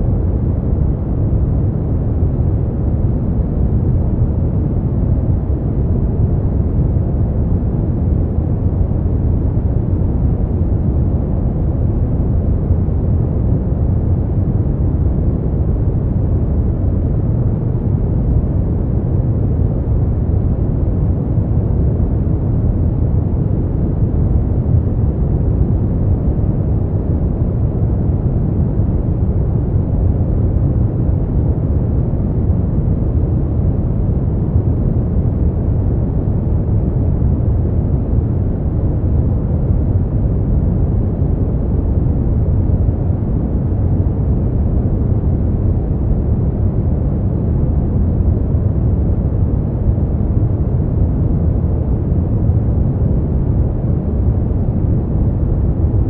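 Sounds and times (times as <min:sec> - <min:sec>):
brown noise: 0:00.0 - 0:56.0.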